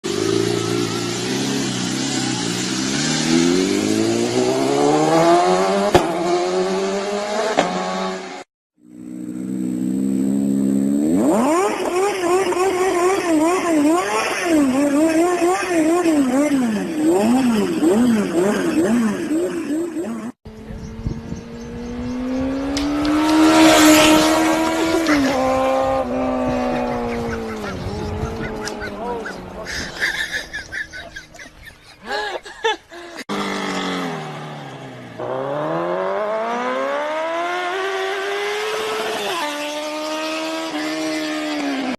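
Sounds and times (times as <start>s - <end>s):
motorcycle engine accelerating: 0.0s - 31.9s, 33.3s - 41.9s.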